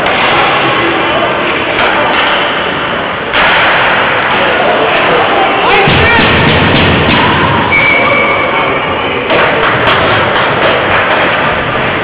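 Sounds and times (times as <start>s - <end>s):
ice rink ambience: 0.0s - 12.0s.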